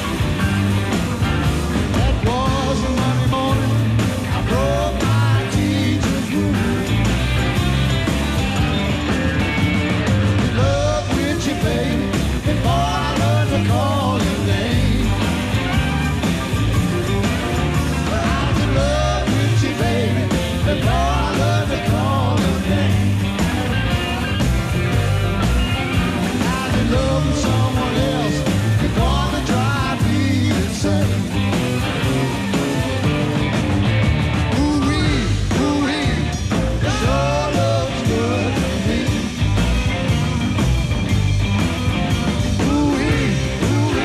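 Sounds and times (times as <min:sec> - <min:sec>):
bending lead guitar line: 0:00.0 - 0:44.0
live rock band playing: 0:00.0 - 0:44.0.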